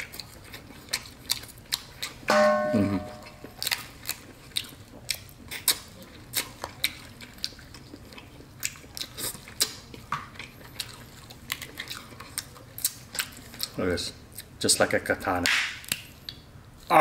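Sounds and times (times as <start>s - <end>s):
chewing: 0.0s - 2.3s, 3.0s - 14.6s.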